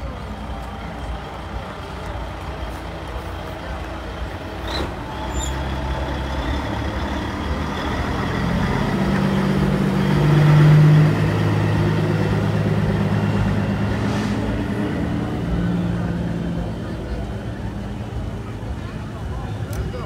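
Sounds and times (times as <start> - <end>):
truck diesel engine passing: 0.0 - 20.0.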